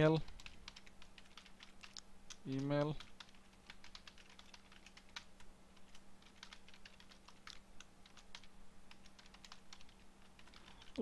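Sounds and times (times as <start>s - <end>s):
faint keyboard typing: 0.0s - 11.0s.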